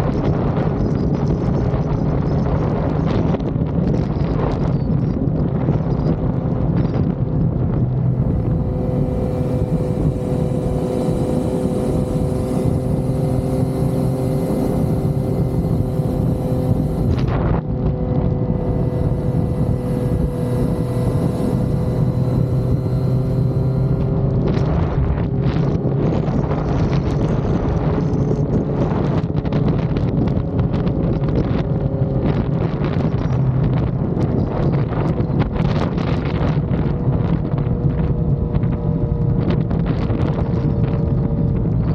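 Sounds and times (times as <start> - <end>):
motorcycle engine cruising: 0.0 - 41.9
wind rushing over microphone: 0.0 - 41.9.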